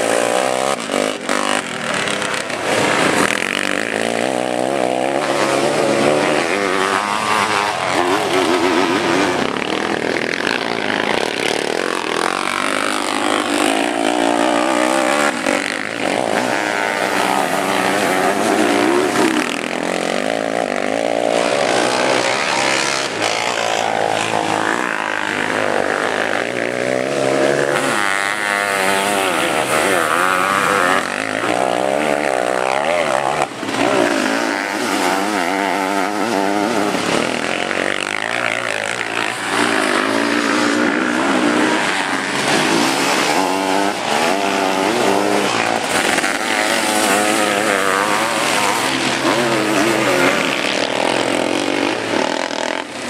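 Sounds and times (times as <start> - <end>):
racing engines revving: 0.0 - 53.0.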